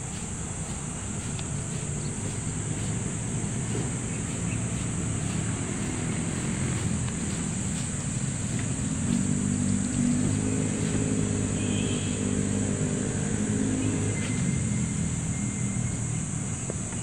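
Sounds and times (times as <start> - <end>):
vehicle engine passing by: 0.0 - 16.6.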